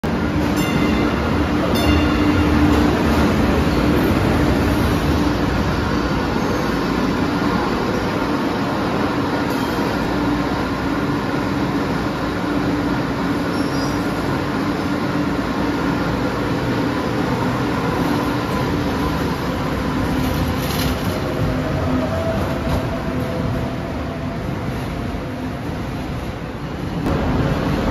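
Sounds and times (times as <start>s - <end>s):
light-rail train rumbling: 0.0s - 27.9s.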